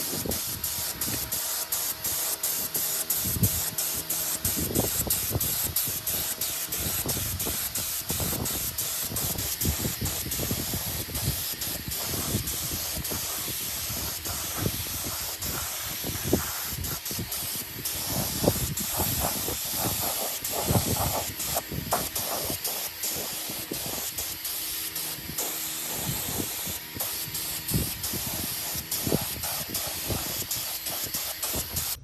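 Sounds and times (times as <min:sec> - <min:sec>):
spraying hiss: 0:00.0 - 0:32.0.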